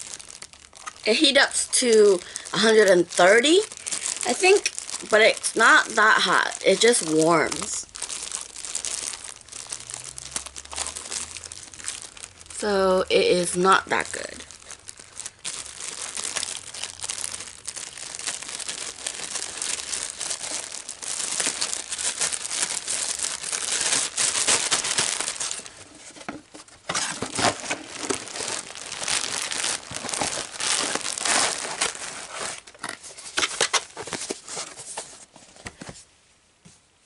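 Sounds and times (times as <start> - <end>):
packaging crinkling: 0.0 - 35.9.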